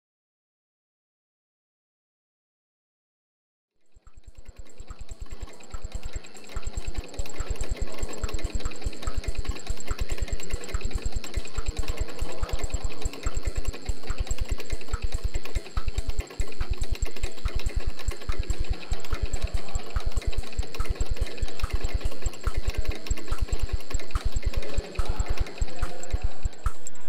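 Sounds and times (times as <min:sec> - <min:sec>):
high whine: 0:04.1 - 0:27.0
machine thumping rapidly: 0:04.2 - 0:27.0.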